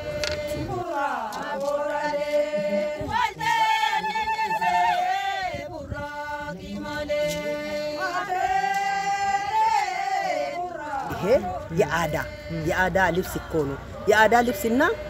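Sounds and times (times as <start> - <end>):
chant-like singing: 0.0 - 15.0.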